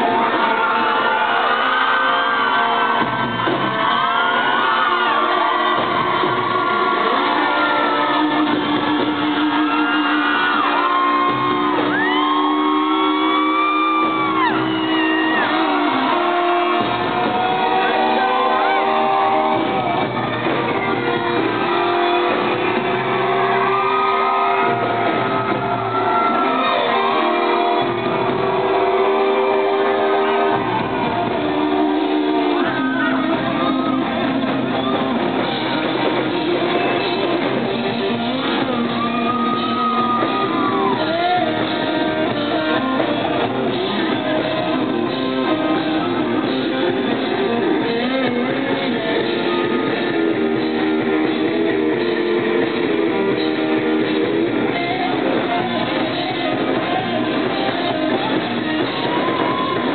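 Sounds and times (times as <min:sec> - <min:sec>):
electric guitars: 0:00.0 - 0:59.9
live rock band playing: 0:00.0 - 0:59.9.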